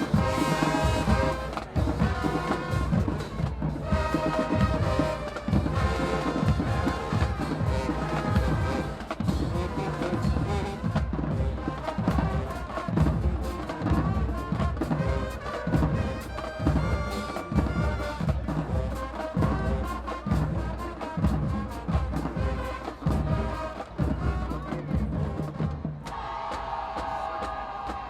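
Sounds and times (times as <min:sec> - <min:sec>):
brass section playing chords: 0:00.0 - 0:24.8
drumline beat: 0:00.0 - 0:28.0.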